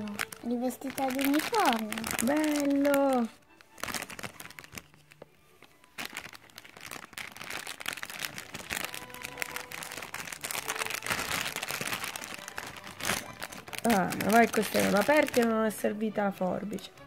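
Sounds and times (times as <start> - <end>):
small crackles: 0.0 - 15.8
plastic bag crinkling: 0.0 - 16.4.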